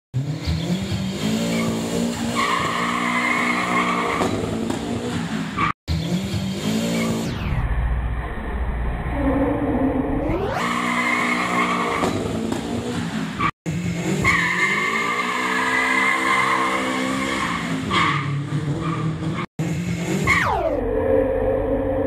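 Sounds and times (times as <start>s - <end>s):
car engine revving: 0.1s - 22.0s.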